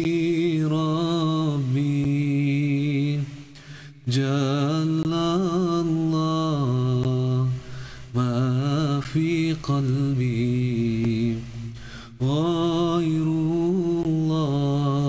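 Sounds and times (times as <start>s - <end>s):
man chanting: 0.0s - 3.4s, 4.0s - 15.0s.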